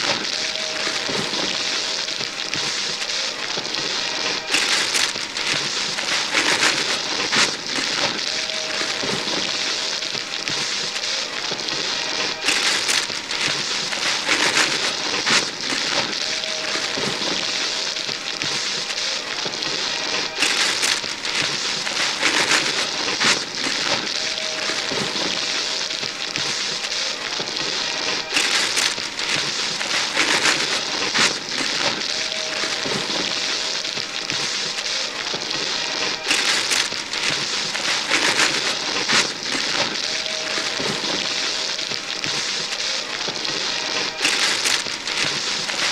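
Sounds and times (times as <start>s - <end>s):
paper tearing and crumpling: 0.0s - 45.9s.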